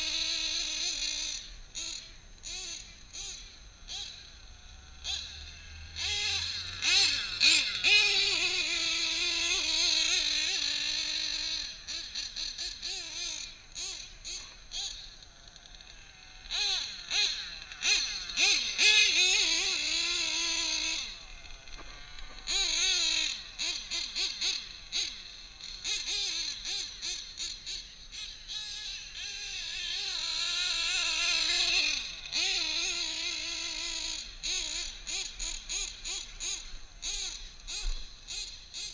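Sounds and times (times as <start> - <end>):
high-pitched nitro engine revving: 0.0 - 38.9
stuttering throttle blips: 0.0 - 38.9.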